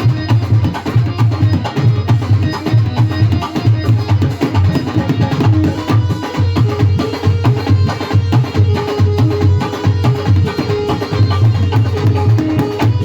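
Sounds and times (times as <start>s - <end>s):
hand drums beating: 0.0s - 13.0s
instrumental melody: 0.0s - 13.0s.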